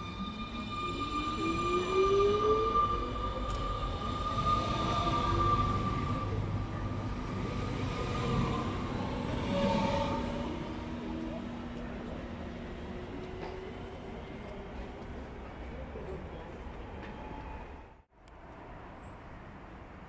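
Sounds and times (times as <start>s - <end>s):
wheels rumbling on rail: 0.0s - 19.1s.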